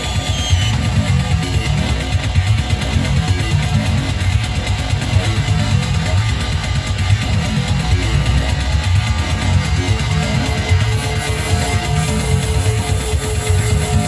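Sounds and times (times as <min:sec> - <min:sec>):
distorted synth pulses: 0:00.0 - 0:14.0.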